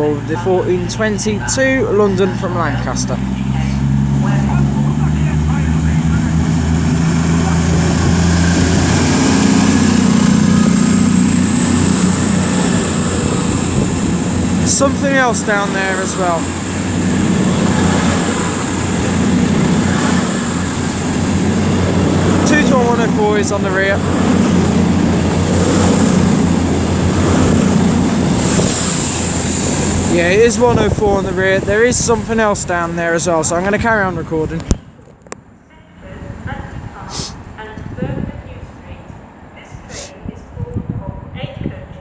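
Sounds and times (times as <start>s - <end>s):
diesel train engines humming: 0.0s - 34.7s, 36.2s - 40.2s
high whine: 0.0s - 34.7s.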